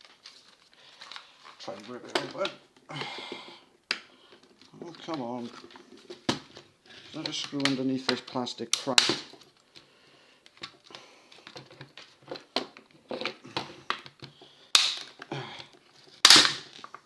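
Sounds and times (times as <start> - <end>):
plastic cracking: 0.0 - 2.9, 3.8 - 17.0.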